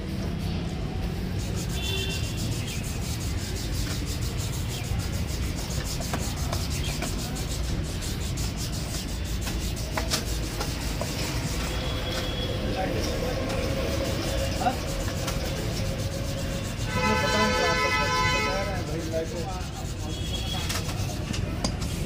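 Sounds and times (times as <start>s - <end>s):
metal parts rubbing and scraping: 1.3s - 22.0s.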